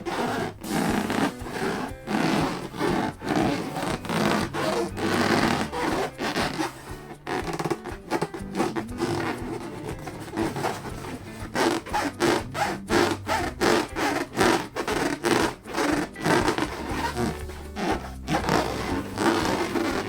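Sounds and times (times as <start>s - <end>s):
balloon squeaking when rubbed: 0.0s - 20.0s.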